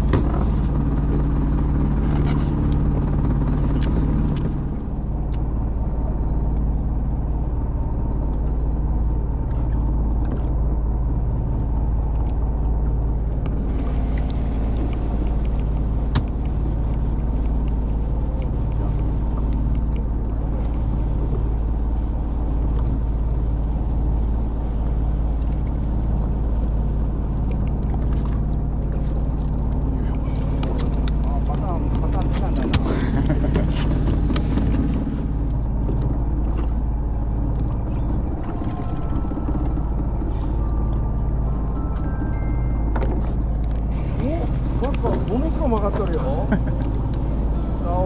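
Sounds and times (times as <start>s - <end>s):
boat engine idling: 0.0s - 48.0s.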